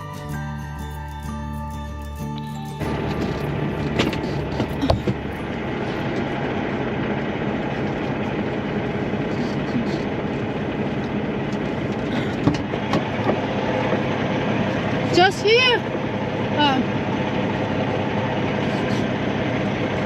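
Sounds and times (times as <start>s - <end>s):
outdoor noise: 0.0s - 20.0s
truck engine idling: 0.0s - 20.0s.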